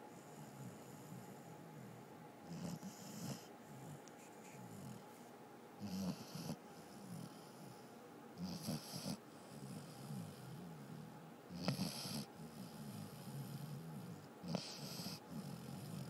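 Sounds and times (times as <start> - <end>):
dog breathing softly: 0.0 - 16.0
dog snoring: 0.2 - 5.1, 5.8 - 16.0.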